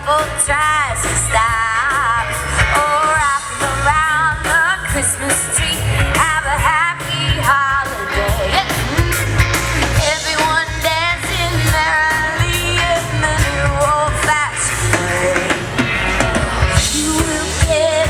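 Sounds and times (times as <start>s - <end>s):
bass and drum beat: 0.0s - 18.0s
pop song with singing: 0.0s - 18.0s.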